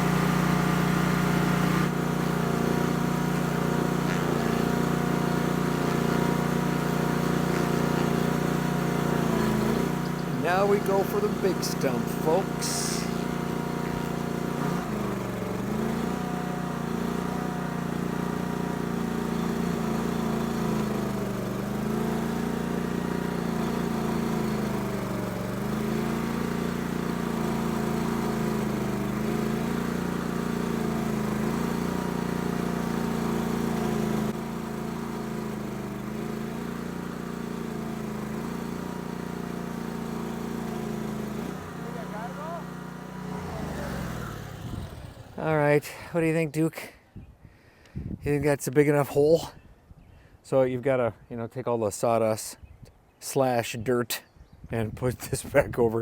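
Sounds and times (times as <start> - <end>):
stump grinder engine running hard: 0.0 - 46.1.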